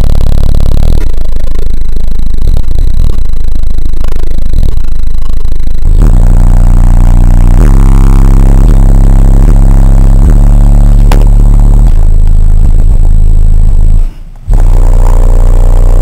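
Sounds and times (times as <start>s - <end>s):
loud deep bass music: 0.0s - 16.0s.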